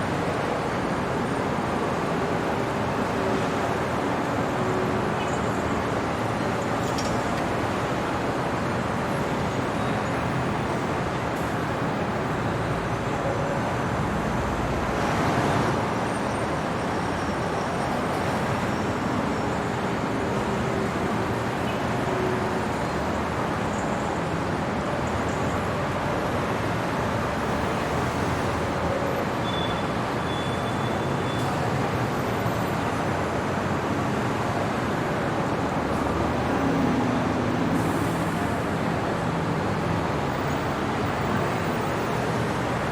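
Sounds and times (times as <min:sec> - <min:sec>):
road traffic noise: 0:00.0 - 0:42.9.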